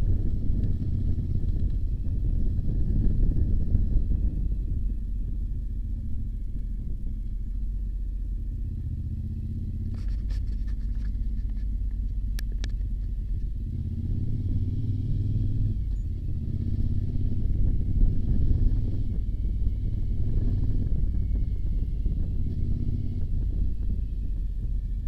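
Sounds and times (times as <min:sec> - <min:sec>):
vehicle engine and road rumble: 0:00.0 - 0:25.0.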